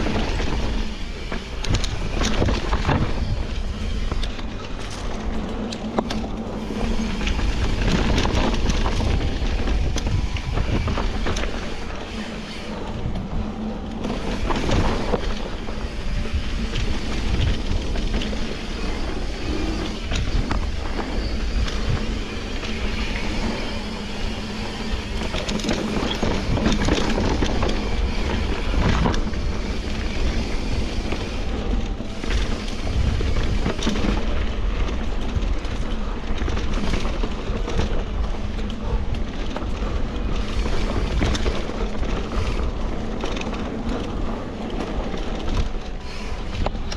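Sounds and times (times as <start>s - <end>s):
wind rush and road noise: 0.0s - 46.9s.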